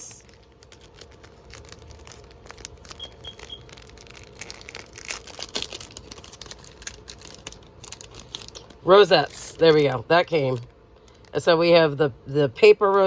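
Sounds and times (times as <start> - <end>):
paper and packaging crinkling: 0.0 - 11.6.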